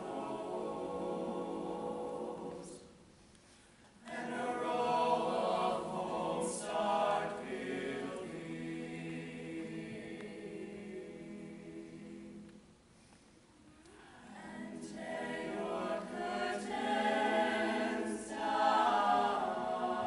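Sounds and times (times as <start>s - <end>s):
choir singing a cappella: 0.0s - 3.0s, 4.0s - 12.6s, 14.1s - 20.0s.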